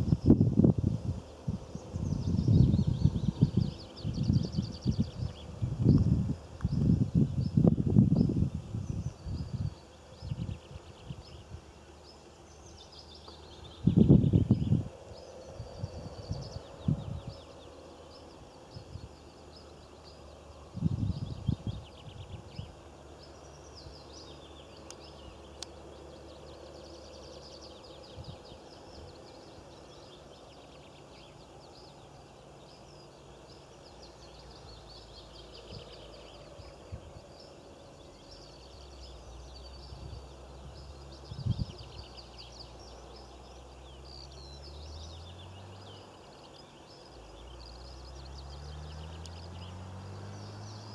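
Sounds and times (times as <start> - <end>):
small birds chirping: 0.0 - 50.9
steady outdoor hiss: 0.0 - 50.9.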